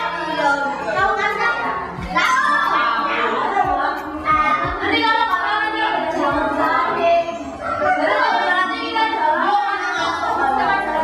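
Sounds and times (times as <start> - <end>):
children and women singing: 0.0 - 11.0.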